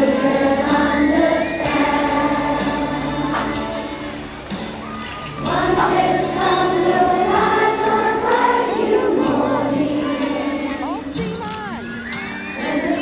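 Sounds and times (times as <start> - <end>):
children cheering and chanting: 0.0 - 13.0.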